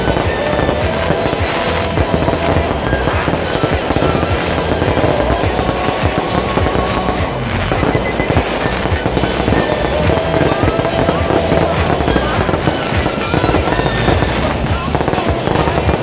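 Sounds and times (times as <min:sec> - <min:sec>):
fireworks cracks and pops: 0:00.0 - 0:16.0.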